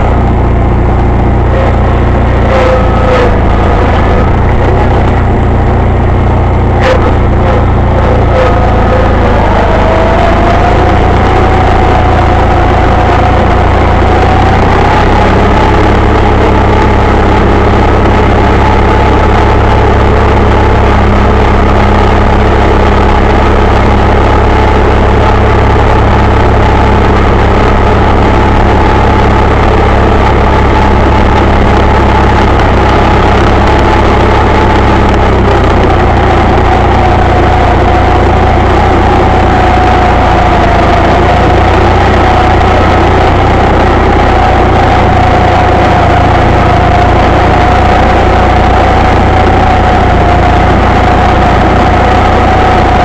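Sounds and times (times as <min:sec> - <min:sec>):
garden tractor engine running: 0:00.0 - 0:53.0.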